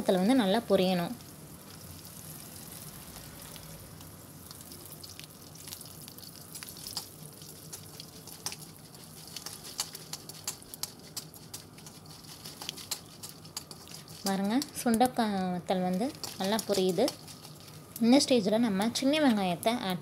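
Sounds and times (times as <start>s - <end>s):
berries frying in hot oil: 0.0s - 20.0s
oil crackling and popping: 0.0s - 20.0s.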